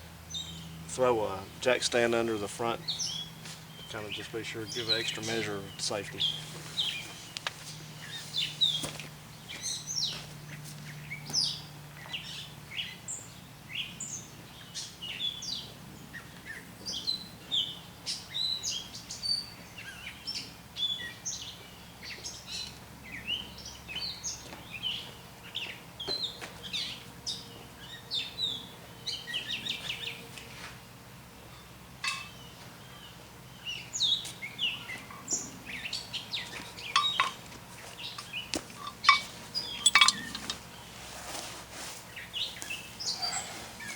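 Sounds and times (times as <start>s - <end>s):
birds chirping: 0.3s - 30.3s, 31.4s - 41.0s, 42.1s - 43.9s.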